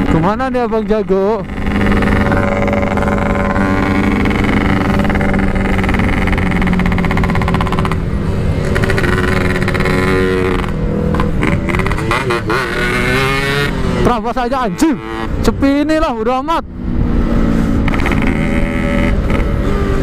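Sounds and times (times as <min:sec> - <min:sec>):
two-stroke motorcycle engine: 0:00.0 - 0:15.4, 0:17.8 - 0:20.0.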